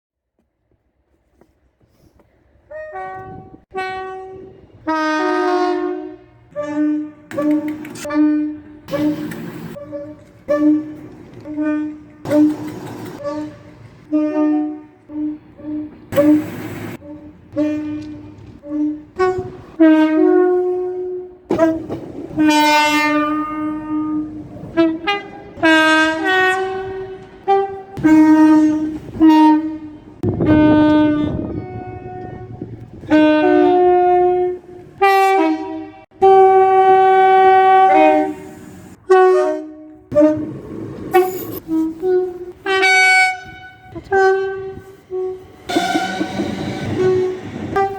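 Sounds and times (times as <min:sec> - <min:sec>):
train horn blasts: 0:02.7 - 0:47.9.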